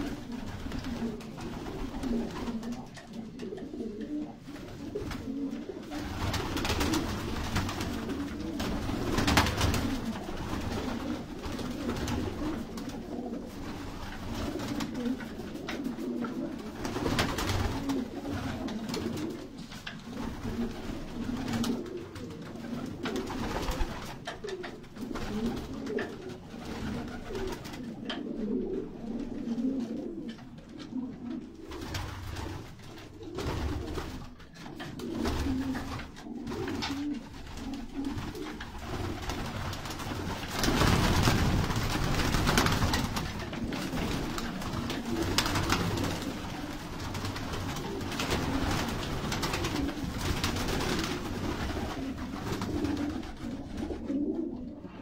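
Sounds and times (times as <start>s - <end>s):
pigeons cooing: 0.0s - 55.0s
wing flutters: 4.4s - 28.0s, 31.2s - 54.1s.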